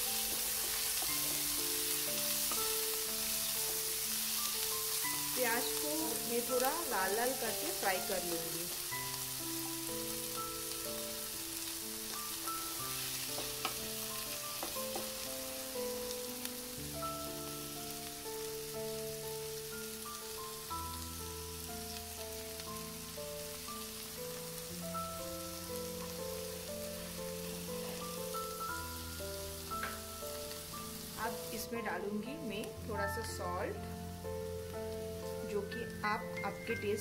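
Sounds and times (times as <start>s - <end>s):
onions sizzling in hot oil: 0.0s - 37.0s
soft background music: 0.0s - 37.0s.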